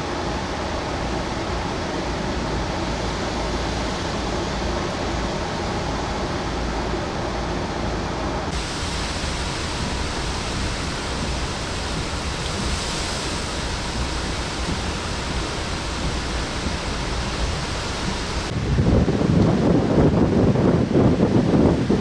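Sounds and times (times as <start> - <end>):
storm rain: 0.0 - 22.0
wind: 0.0 - 22.0.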